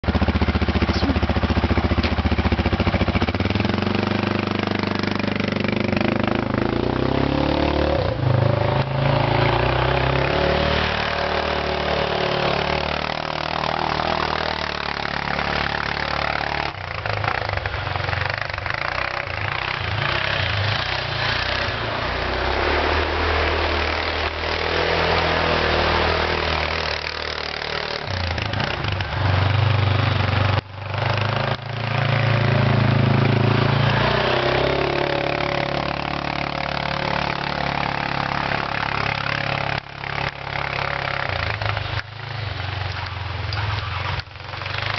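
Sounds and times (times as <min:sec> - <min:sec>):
quad bike engine revving: 0:00.0 - 0:44.9.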